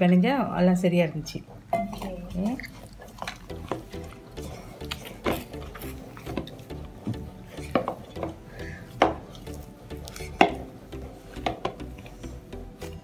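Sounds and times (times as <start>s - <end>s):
background music: 1.8s - 13.0s
hands kneading dough: 1.8s - 13.0s.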